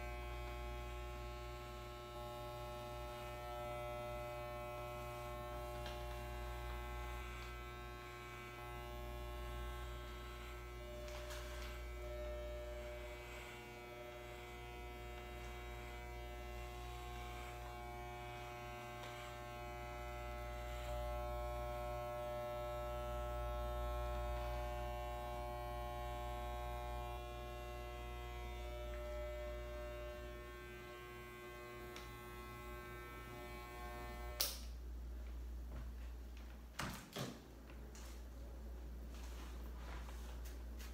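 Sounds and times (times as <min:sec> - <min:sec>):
hair clippers buzzing: 0:00.0 - 0:34.8.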